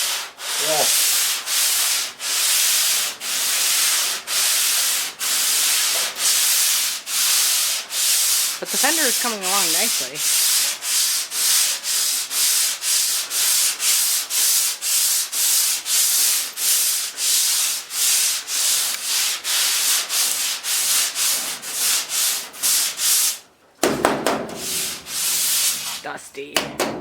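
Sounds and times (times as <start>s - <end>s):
sandpaper rubbing on metal bodywork: 0.0s - 23.4s, 24.4s - 26.1s.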